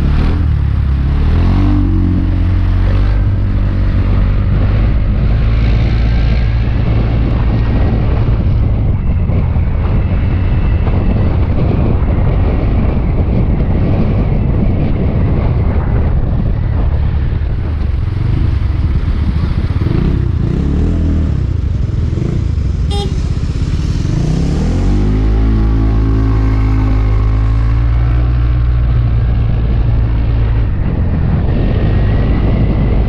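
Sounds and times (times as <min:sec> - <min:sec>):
road noise: 0:00.0 - 0:33.0.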